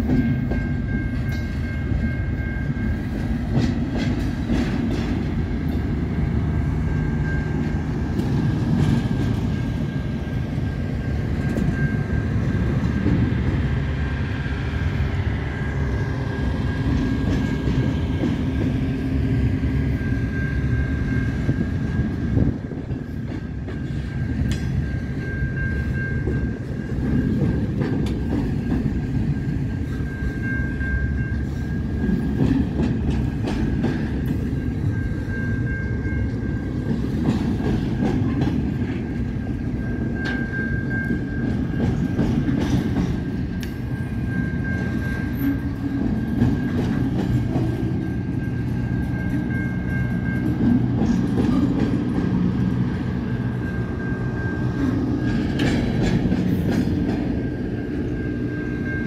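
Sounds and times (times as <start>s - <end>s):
wheels clicking over rail joints: 0.0s - 13.8s, 21.1s - 53.7s, 54.7s - 58.4s
freight train rumbling past: 0.0s - 59.0s
high whine of wheels on rail: 0.0s - 59.0s.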